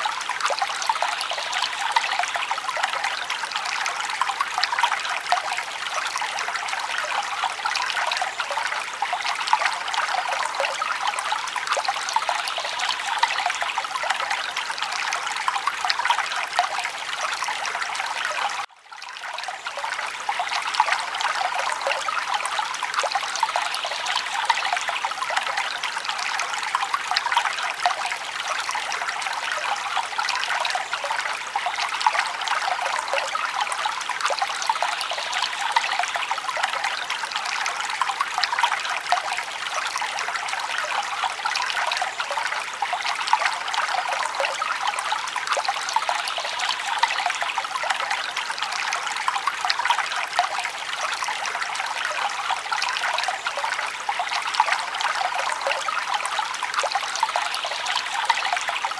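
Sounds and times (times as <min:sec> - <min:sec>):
brook babbling: 0:00.0 - 0:58.9.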